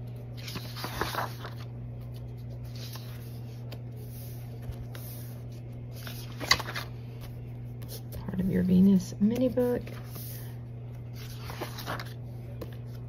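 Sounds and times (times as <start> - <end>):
paper page turning: 0.0 - 8.2, 9.4 - 13.0
steady low hum: 0.0 - 13.0.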